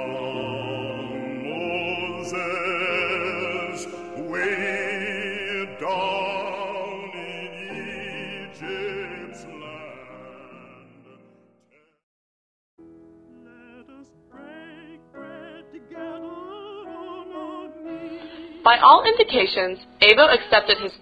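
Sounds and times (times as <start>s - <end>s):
musical accompaniment: 0.0s - 11.8s, 12.8s - 21.0s
operatic singing with vibrato: 0.0s - 12.0s, 13.3s - 21.0s.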